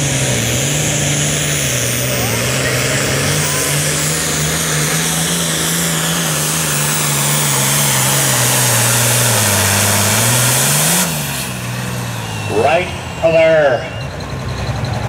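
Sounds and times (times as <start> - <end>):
diesel tractor engine roaring: 0.0 - 15.0.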